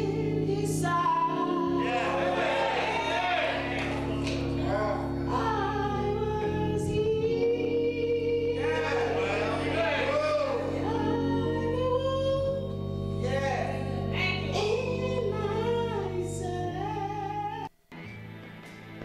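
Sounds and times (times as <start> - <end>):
woman singing gospel song: 0.0 - 2.4, 3.8 - 17.7
quiet music: 0.0 - 19.0
sustained instrumental chords: 0.0 - 19.0.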